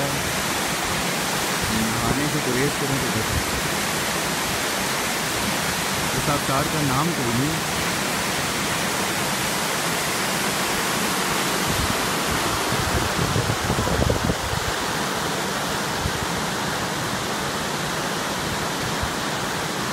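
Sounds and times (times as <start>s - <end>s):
waterfall and stream rushing: 0.0s - 19.9s.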